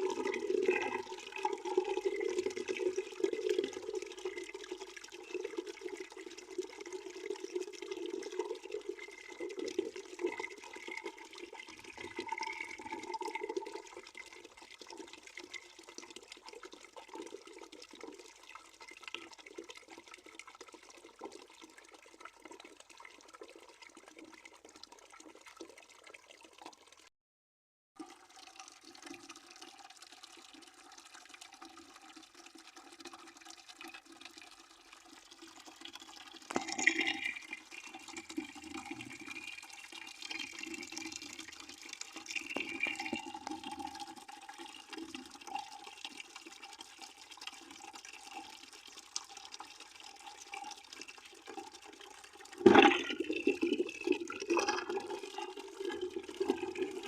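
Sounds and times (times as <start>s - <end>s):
water running into a bucket: 0.0s - 27.1s, 28.0s - 57.0s.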